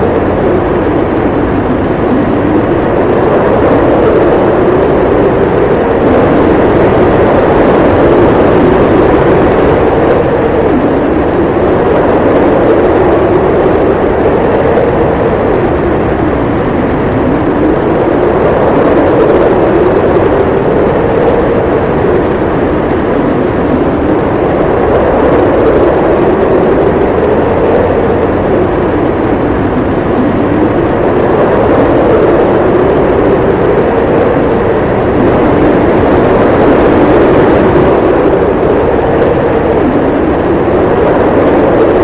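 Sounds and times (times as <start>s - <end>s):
blizzard wind howling: 0.0s - 42.0s
low rumble: 0.0s - 42.0s.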